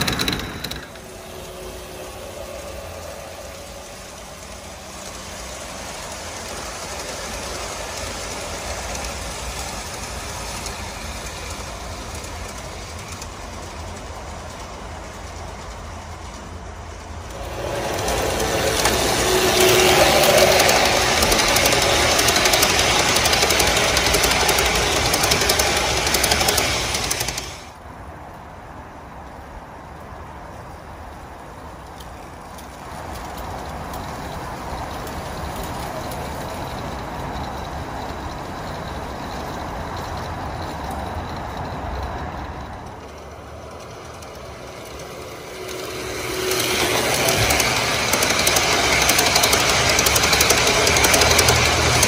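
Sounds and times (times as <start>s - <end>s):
gear motors humming: 0.0s - 16.6s, 17.2s - 27.7s, 32.9s - 52.0s
metal wheels rumbling on track: 0.0s - 27.8s, 30.5s - 52.0s
rapid even clicking of wheels: 0.0s - 27.8s, 29.3s - 52.0s.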